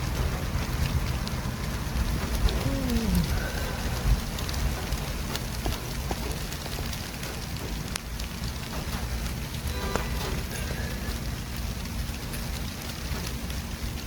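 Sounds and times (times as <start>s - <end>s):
low traffic rumble: 0.0s - 14.0s.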